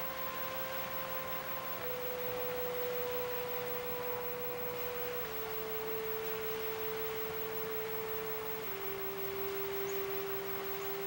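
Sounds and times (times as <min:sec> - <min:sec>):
steady hiss: 0:00.0 - 0:11.0
sustained sine-like music notes: 0:00.0 - 0:11.0.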